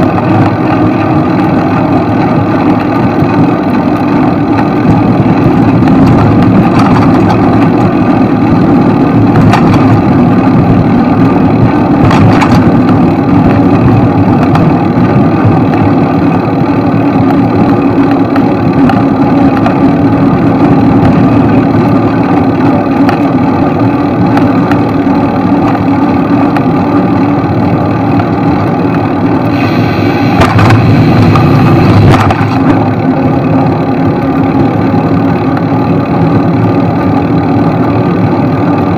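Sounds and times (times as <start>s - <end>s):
road traffic noise: 0.0s - 38.9s.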